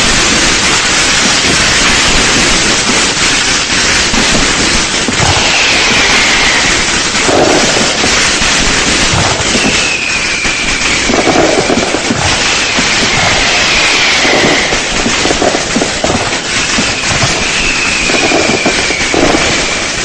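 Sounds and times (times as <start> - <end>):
firework whistle: 0.0 - 20.0
fireworks bangs and crackles: 0.0 - 20.0.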